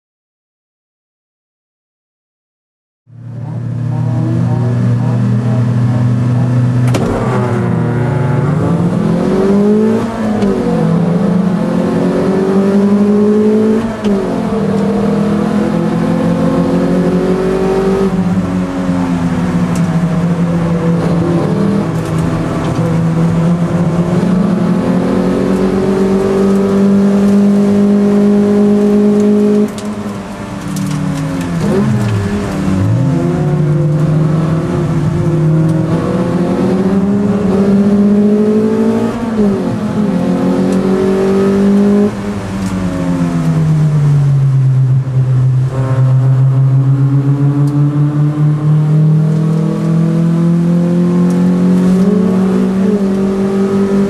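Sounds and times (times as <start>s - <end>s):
race car engine accelerating: 3.2s - 54.0s.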